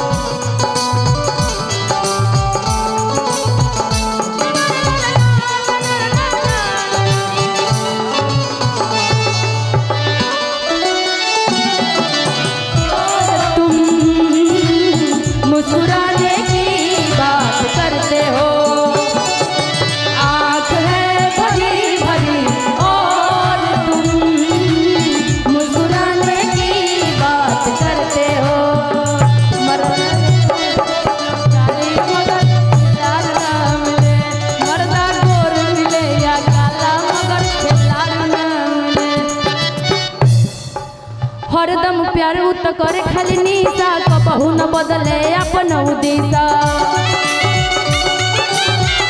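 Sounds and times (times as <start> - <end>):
fast drumming: 0.0 - 10.4, 11.5 - 41.8, 42.9 - 49.0.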